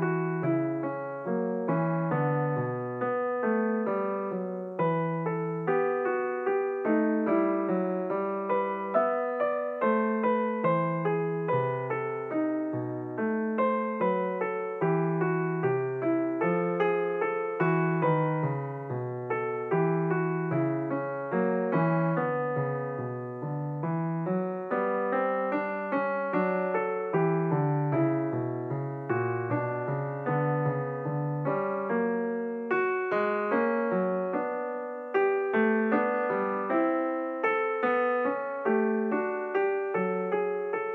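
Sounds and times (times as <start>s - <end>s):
solo piano music: 0.0s - 40.9s.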